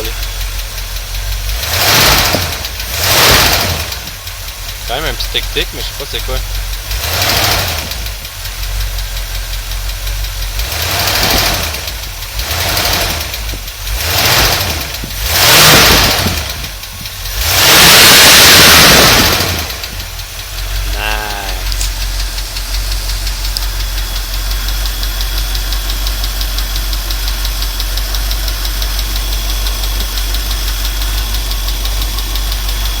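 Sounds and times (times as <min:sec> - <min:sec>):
car engine revving: 0:00.0 - 0:33.0
fast light engine ticking: 0:00.0 - 0:33.0.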